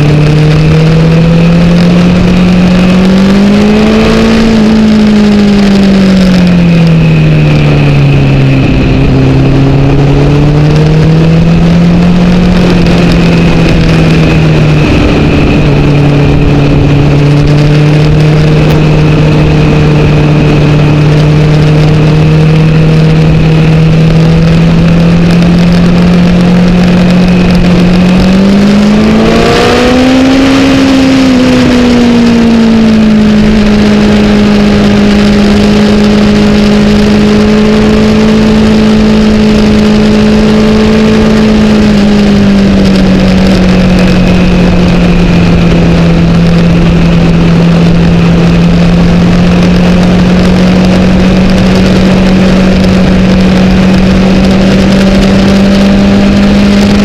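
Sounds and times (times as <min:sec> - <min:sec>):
motorcycle engine: 0:00.0 - 0:57.0
wind noise: 0:00.0 - 0:57.0.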